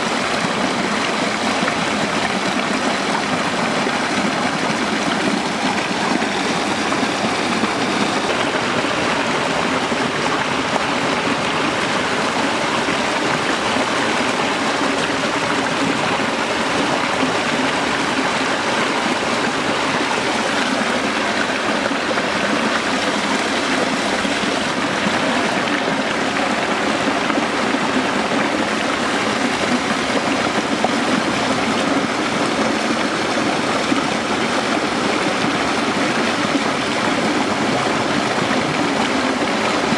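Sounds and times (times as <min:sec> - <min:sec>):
small waterfall and stream running: 0:00.0 - 0:39.9.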